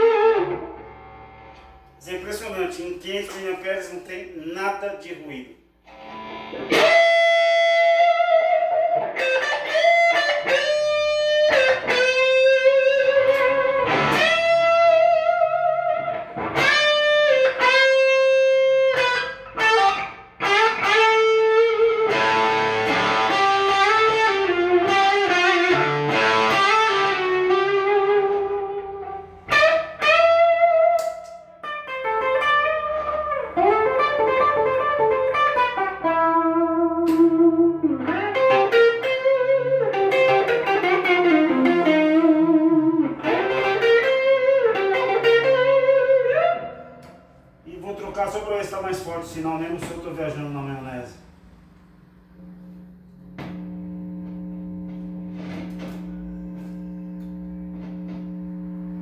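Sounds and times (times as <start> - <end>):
electric guitar through amplifier: 0.0 - 4.5, 5.6 - 59.0.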